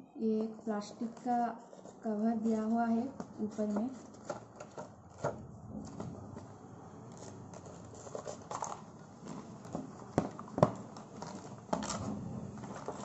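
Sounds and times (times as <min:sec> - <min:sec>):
packaging rustling and scraping: 0:00.4 - 0:13.0.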